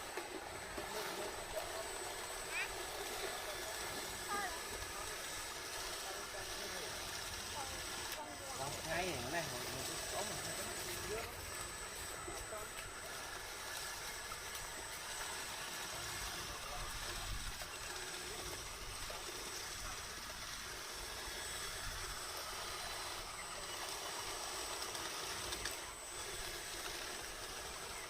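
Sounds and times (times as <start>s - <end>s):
model bulldozer hissing: 0.0s - 28.0s
thin high whine: 0.0s - 28.0s.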